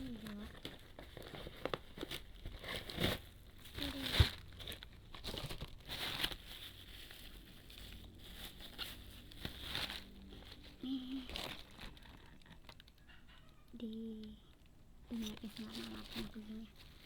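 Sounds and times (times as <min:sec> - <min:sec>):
plastic packaging crinkling and tearing: 0:00.0 - 0:13.1, 0:15.1 - 0:17.0.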